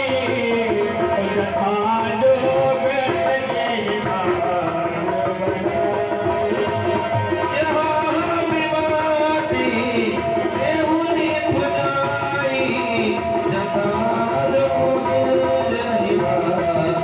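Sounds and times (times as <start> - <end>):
jingling tambourine-like percussion: 0.0 - 17.0.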